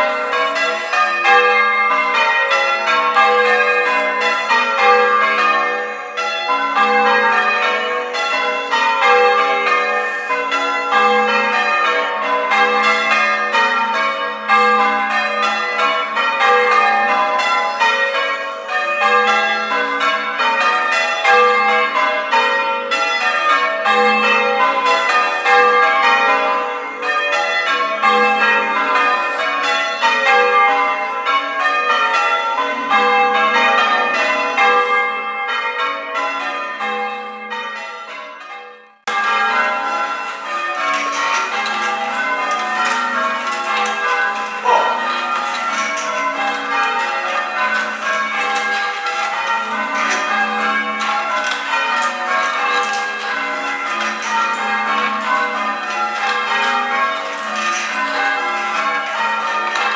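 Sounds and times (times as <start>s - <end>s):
church bells change-ringing: 0.0s - 59.9s.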